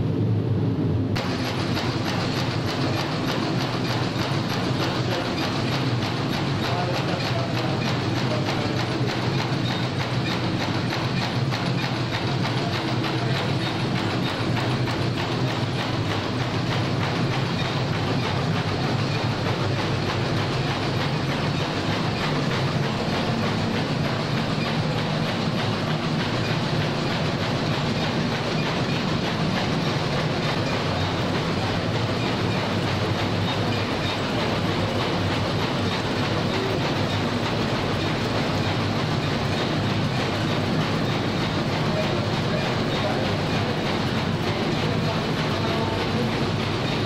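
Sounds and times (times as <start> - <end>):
sorting machinery running: 1.1 - 47.0.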